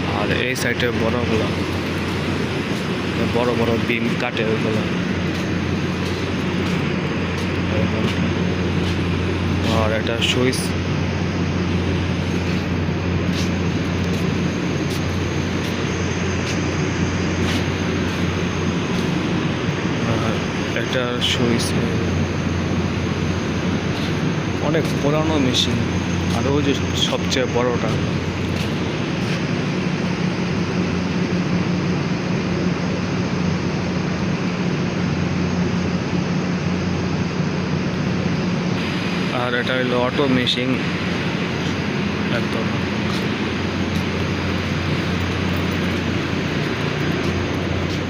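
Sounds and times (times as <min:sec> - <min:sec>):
factory machinery humming: 0:00.0 - 0:48.0.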